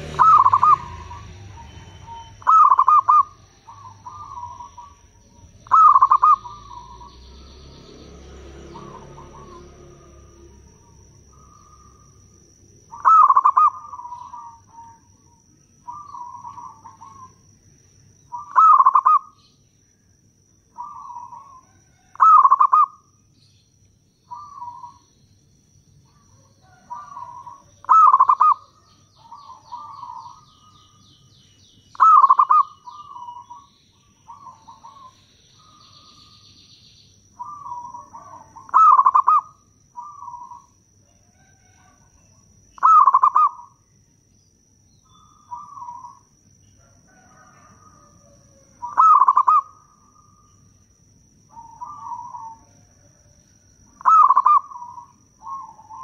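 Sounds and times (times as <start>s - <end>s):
dove cooing: 0.0s - 7.9s, 8.6s - 17.5s, 18.3s - 19.4s, 20.7s - 23.1s, 24.3s - 25.1s, 26.0s - 31.0s, 31.9s - 36.4s, 37.4s - 43.8s, 45.1s - 50.6s, 51.5s - 53.2s, 54.0s - 56.0s.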